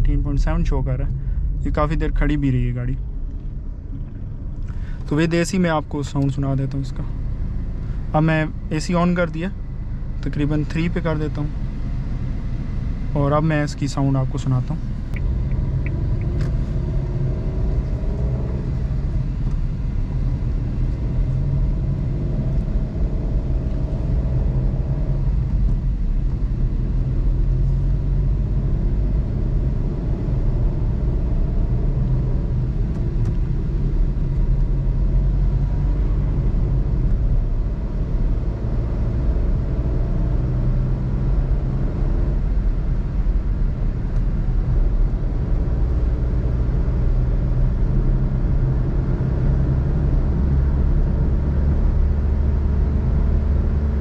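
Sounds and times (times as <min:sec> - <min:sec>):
car engine rumbling inside cabin: 0:00.0 - 0:54.0.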